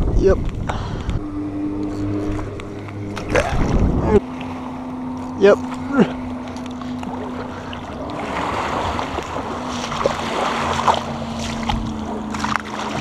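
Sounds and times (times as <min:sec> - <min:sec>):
wind buffeting microphone: 0:00.0 - 0:04.3, 0:04.9 - 0:13.0
steady low hum: 0:00.0 - 0:13.0
water sloshing: 0:00.4 - 0:13.0.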